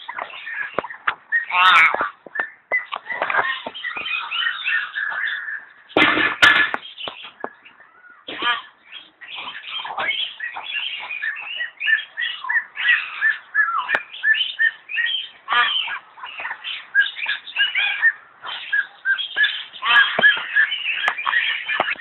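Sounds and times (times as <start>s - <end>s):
myna whistling and squawking: 0.0s - 5.7s, 8.4s - 22.0s.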